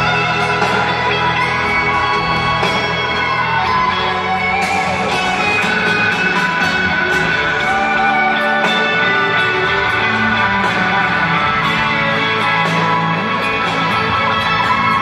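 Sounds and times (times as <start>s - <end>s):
guitar playing: 0.0s - 15.0s
live band instrumental: 0.0s - 15.0s.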